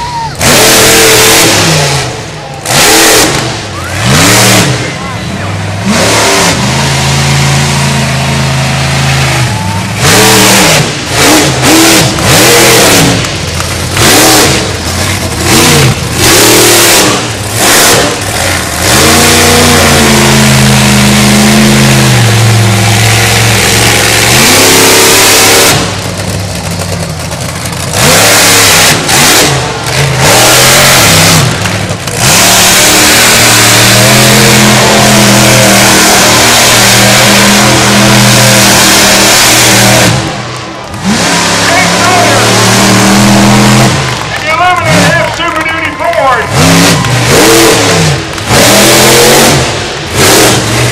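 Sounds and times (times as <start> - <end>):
monster truck engine revving: 0.0 - 50.9.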